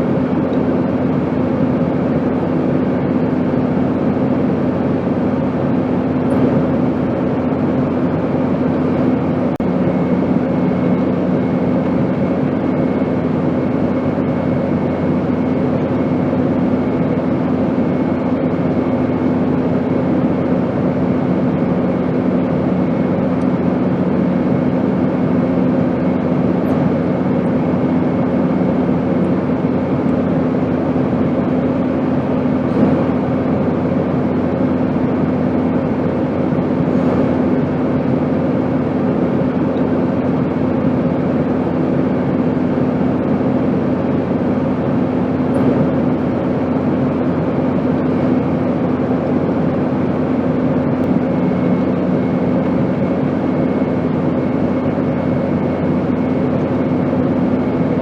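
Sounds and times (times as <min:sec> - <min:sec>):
airplane cabin rushing noise: 0:00.0 - 0:58.0
low hum: 0:00.0 - 0:58.0.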